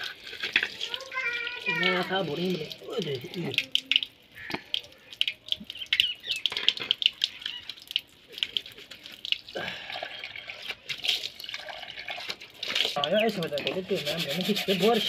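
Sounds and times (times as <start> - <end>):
tap water on concrete: 0.0 - 15.0
water splashing: 0.0 - 15.0.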